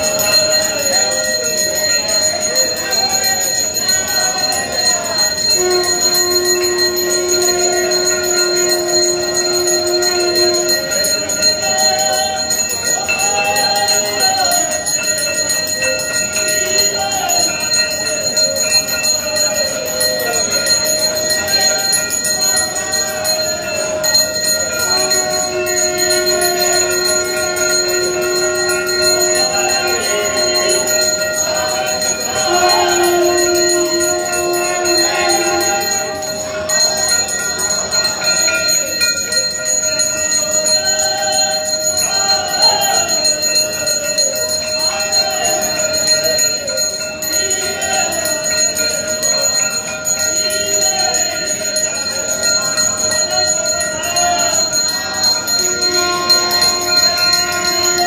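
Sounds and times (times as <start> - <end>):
crowd voices and singing: 0.0 - 58.0
temple bells ringing: 0.0 - 58.0.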